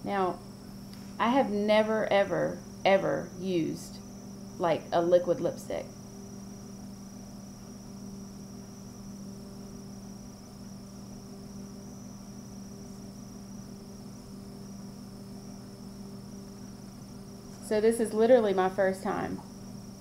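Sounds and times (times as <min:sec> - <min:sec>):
faint high-pitched whine: 0:00.0 - 0:20.0
low electrical hum: 0:00.0 - 0:20.0.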